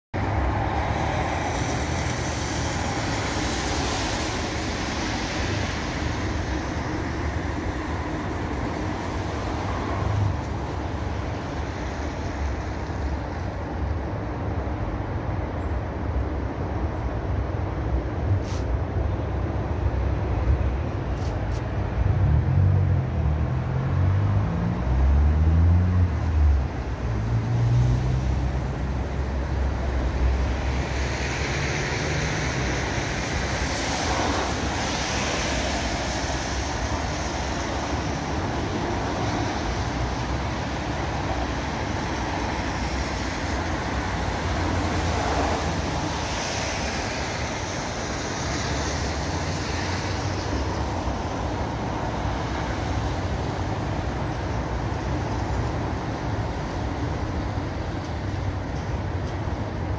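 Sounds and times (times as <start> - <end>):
road traffic on wet street: 0.1 - 59.9
rain: 0.2 - 21.2, 21.8 - 59.9.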